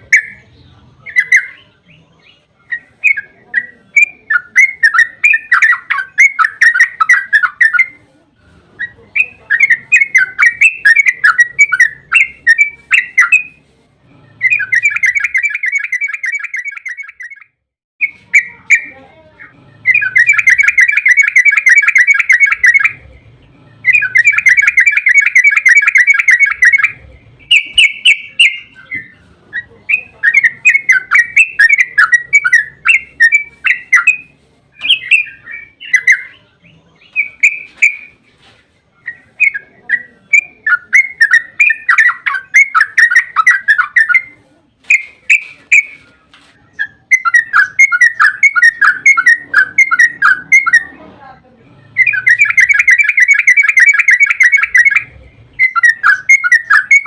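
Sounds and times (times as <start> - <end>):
bulbul singing: 0.0 - 8.1, 8.8 - 51.0, 51.7 - 57.0.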